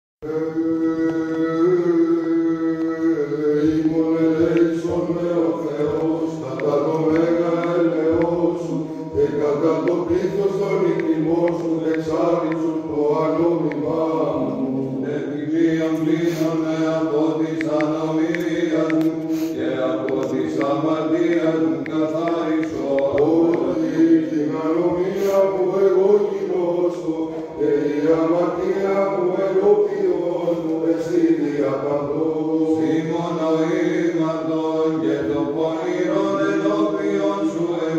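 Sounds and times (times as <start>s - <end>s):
church chant melody: 0.2s - 37.9s
held low vocal drone: 0.2s - 37.9s.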